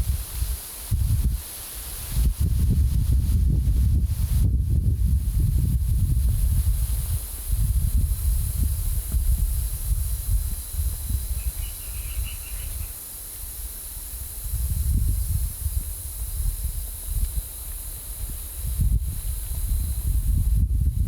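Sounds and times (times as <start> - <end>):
wind buffeting microphone: 0.0 - 12.9, 13.6 - 21.0
steady high hiss: 0.0 - 21.0.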